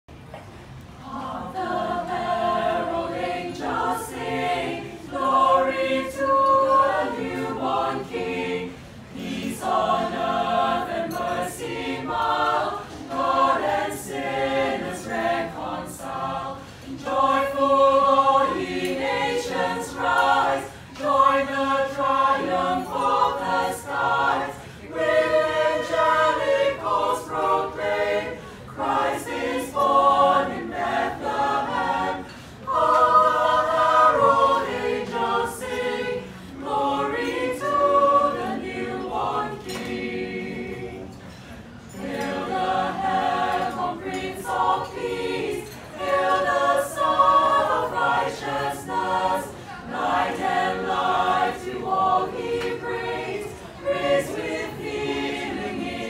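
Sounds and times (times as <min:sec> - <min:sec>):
choir singing a cappella: 0:00.2 - 0:56.0.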